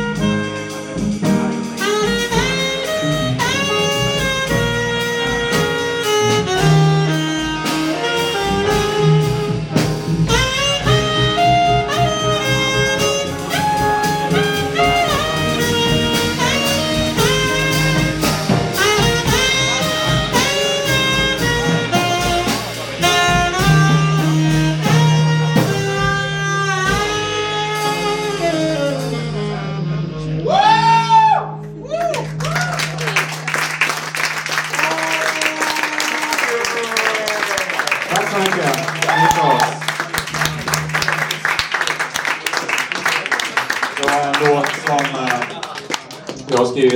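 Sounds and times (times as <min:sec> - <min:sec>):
drum kit: 0:00.0 - 0:29.8, 0:32.0 - 0:46.9
double bass: 0:00.0 - 0:36.4, 0:38.1 - 0:42.3
saxophone melody: 0:00.0 - 0:45.5
piano: 0:00.0 - 0:46.9.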